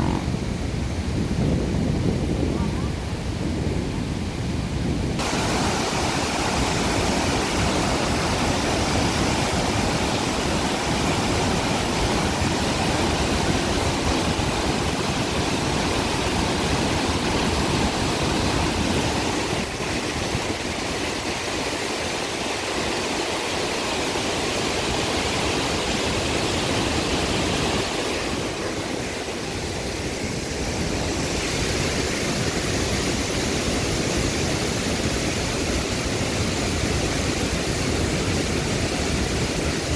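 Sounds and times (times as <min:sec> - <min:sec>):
loud rush of water: 0:00.0 - 0:39.9.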